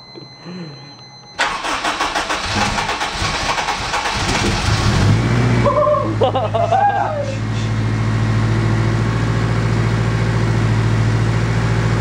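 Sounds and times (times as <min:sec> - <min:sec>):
car engine starting and idling: 0:01.4 - 0:12.0.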